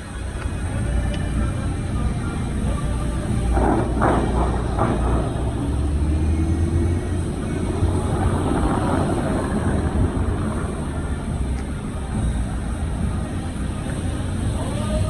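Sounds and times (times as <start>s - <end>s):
bus engine rumble: 0.0s - 15.0s
road noise inside vehicle: 0.0s - 15.0s.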